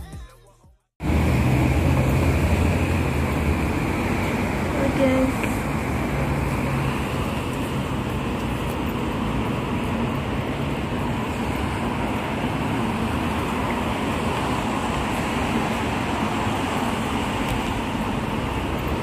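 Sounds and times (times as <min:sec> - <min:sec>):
passing cars: 0:01.0 - 0:19.0.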